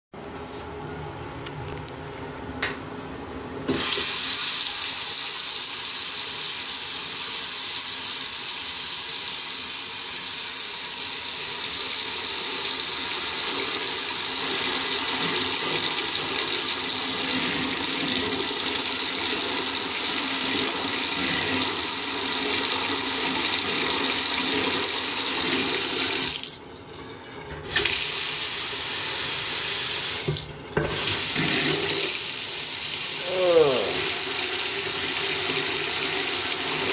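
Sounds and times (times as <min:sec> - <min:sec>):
faucet running into sink: 0:03.7 - 0:33.2, 0:33.8 - 0:36.9.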